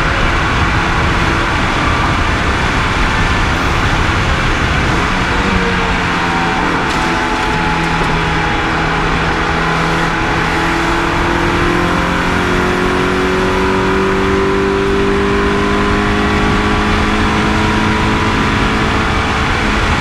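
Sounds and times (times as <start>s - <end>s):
car engine accelerating: 0.0s - 20.0s
road and wind noise: 0.0s - 20.0s.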